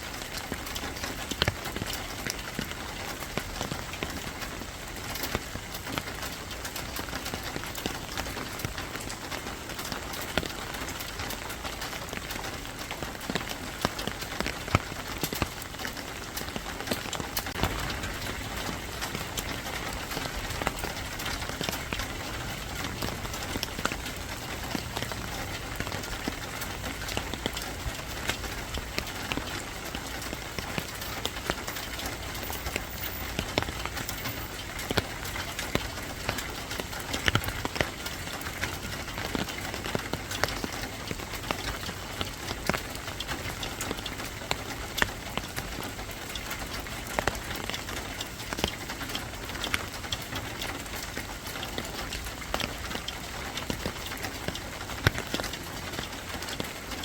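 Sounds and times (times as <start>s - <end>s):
raindrops ticking on hard surface: 0.0s - 57.0s
steady rain: 0.0s - 57.0s.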